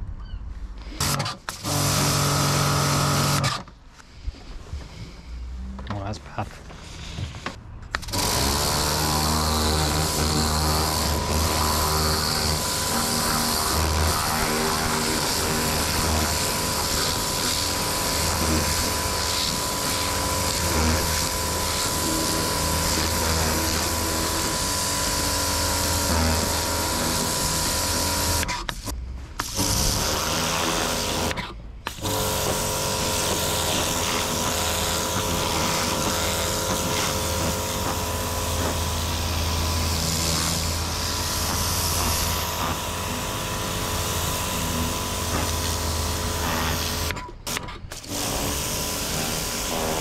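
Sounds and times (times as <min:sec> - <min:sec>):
pressure washer droning: 0:00.8 - 0:03.6, 0:06.7 - 0:50.0.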